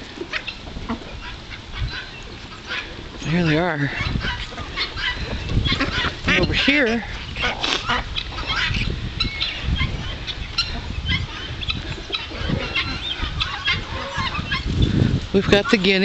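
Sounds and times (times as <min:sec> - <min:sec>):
poultry calling: 0:00.0 - 0:16.0.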